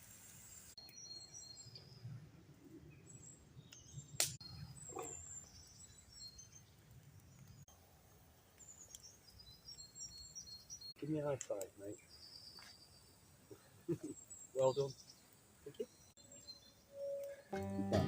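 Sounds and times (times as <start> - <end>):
birds chirping and trilling: 0.4 - 17.9.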